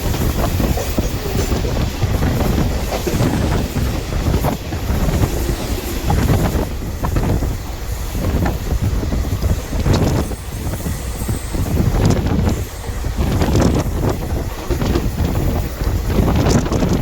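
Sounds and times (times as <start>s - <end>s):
train rumbling on track: 0.0s - 17.0s
wind buffeting microphone: 0.0s - 17.0s.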